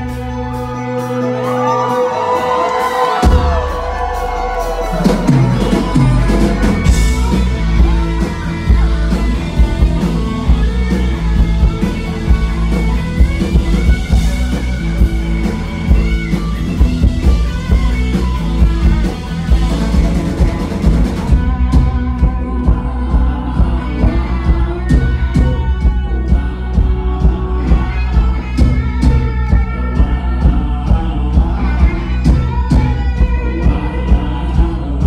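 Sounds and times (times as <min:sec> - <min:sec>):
bass guitar: 0:00.0 - 0:35.0
drum kit: 0:00.0 - 0:35.0.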